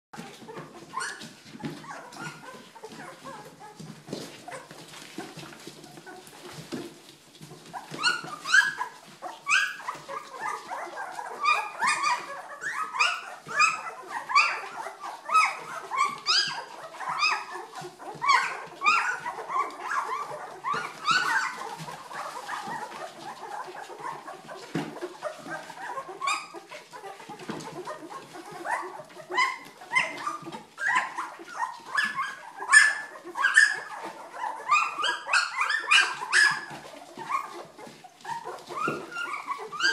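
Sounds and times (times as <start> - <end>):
puppies whimpering and squealing: 0.2 - 39.9.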